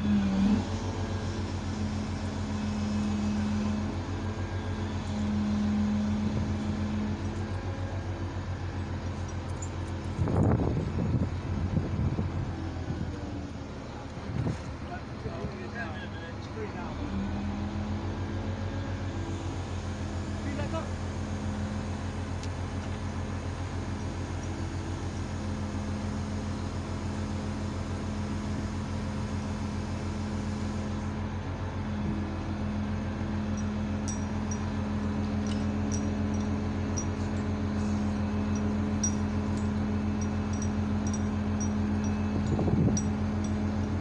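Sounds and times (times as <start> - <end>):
crane engine droning: 0.0 - 44.0.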